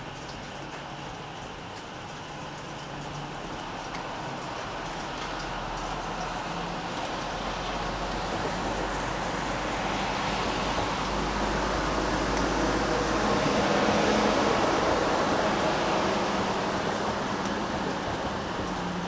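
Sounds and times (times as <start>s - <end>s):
traffic on wet road: 0.0s - 19.0s.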